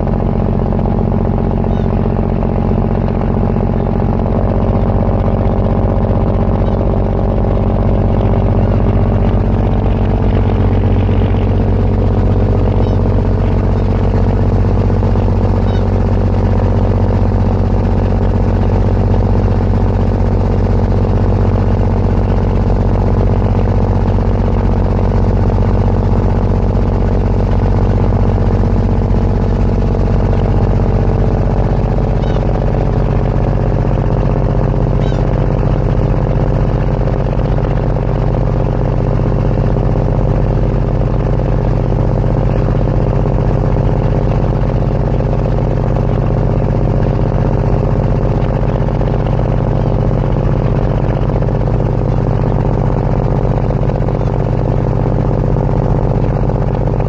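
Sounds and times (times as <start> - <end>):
ferry engine drone: 0.0 - 57.0.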